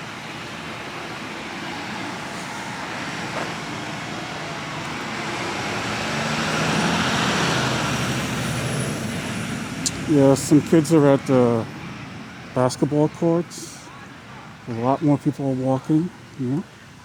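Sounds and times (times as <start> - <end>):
passing motor vehicle: 0.0 - 17.0.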